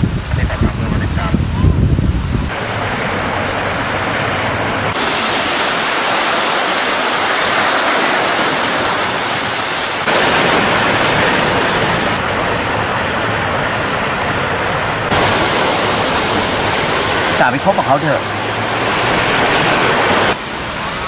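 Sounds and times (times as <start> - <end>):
waves washing on beach: 0.0 - 21.0.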